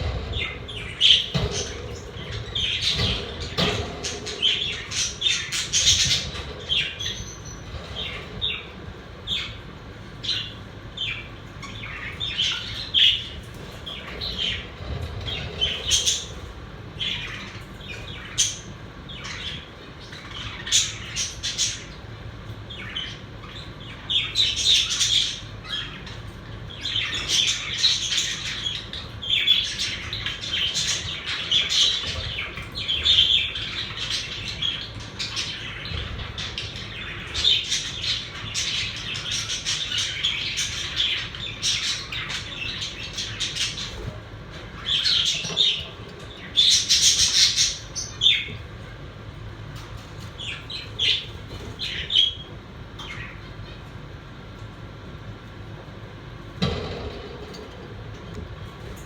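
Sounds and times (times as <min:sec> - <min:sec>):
budgerigars chattering and chirping: 0:00.0 - 0:49.0, 0:49.7 - 0:54.0.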